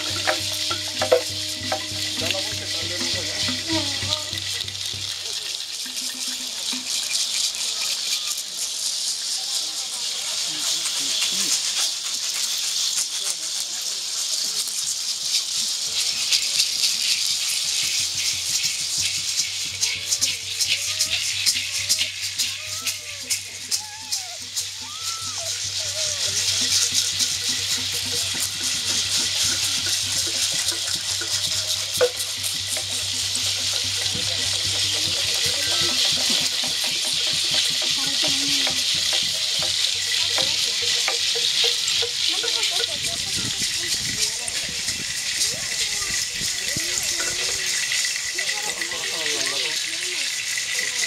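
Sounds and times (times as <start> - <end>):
maracas rattling: 0.0 - 51.0.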